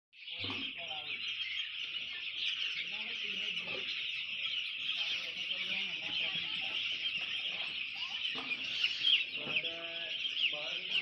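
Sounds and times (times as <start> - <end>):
chickens clucking: 0.2 - 11.0
chickens peeping: 0.2 - 11.0.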